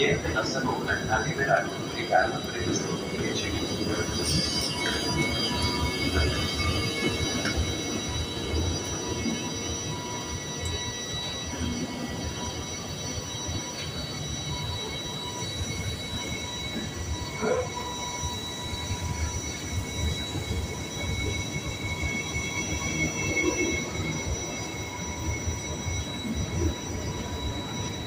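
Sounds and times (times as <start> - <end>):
low rumble of train cars: 0.0 - 28.0
train wheels squealing: 0.0 - 28.0.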